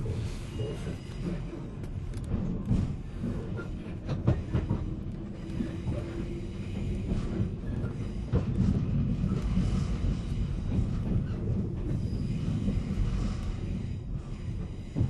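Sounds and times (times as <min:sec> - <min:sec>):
rail clicks: 0:00.0 - 0:15.0
train wheels rumbling: 0:00.0 - 0:15.0.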